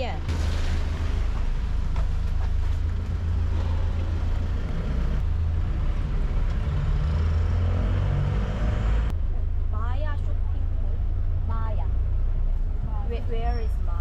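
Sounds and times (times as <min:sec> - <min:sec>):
road and traffic noise: 0:00.0 - 0:14.0
vehicle engine rumbling: 0:00.0 - 0:14.0.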